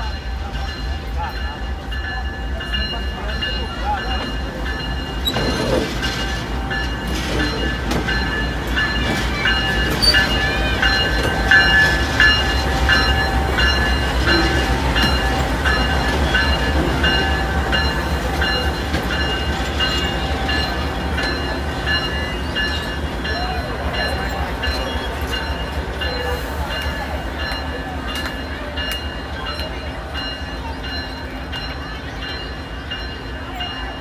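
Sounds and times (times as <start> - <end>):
diesel locomotive engine rumble: 0.0 - 34.0
wheels squealing on rails: 0.0 - 34.0.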